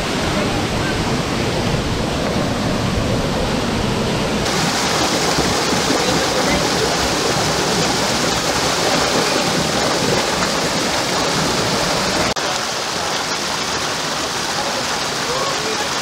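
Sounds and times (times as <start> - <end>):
stream rushing over boulders: 0.0 - 16.0.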